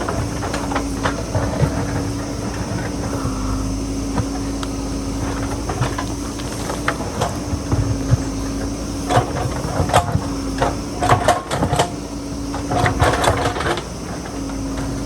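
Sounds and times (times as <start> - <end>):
bucket clanking and scraping rock: 0.0 - 15.0
diesel engine running: 0.0 - 15.0.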